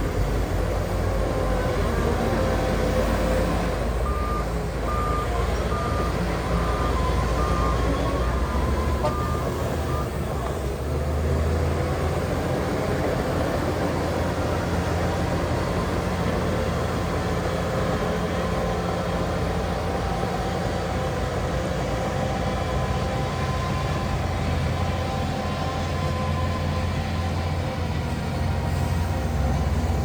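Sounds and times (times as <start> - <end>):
heavy diesel machinery engine drone: 0.0 - 30.0.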